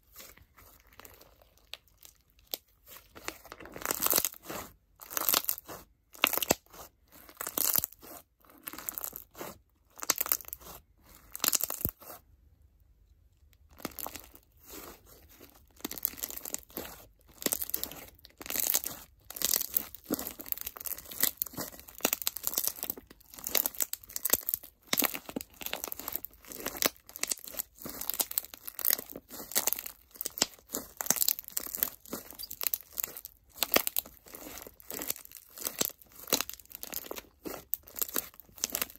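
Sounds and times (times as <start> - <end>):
slime crunching and crackling: 0.0 - 12.2, 13.5 - 38.9.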